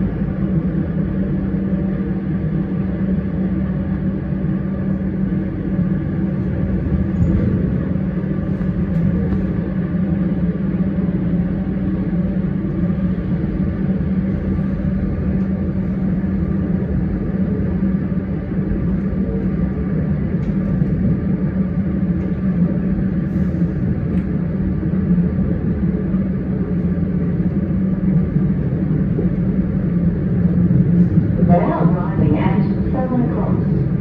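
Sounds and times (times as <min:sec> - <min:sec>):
constant low hum: 0:00.0 - 0:34.0
train rumbling on track: 0:00.0 - 0:34.0.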